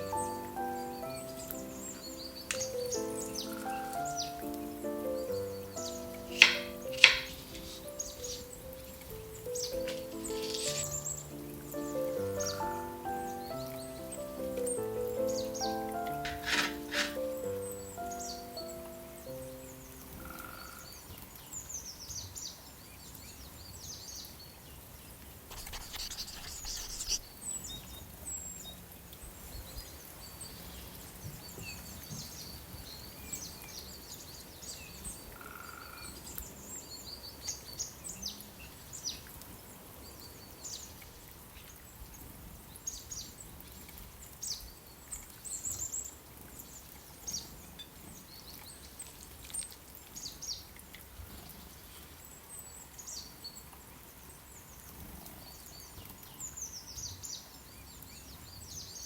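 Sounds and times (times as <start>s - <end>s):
outdoor background hiss: 0.0s - 59.0s
songbirds chirping: 0.0s - 59.0s.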